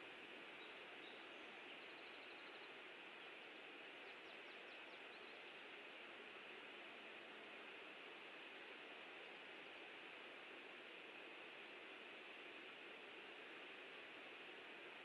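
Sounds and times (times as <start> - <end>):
microphone hiss: 0.0 - 15.0.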